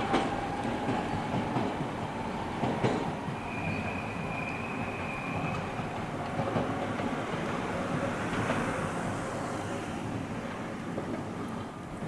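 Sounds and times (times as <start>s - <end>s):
train wheels clacking: 0.0s - 12.0s.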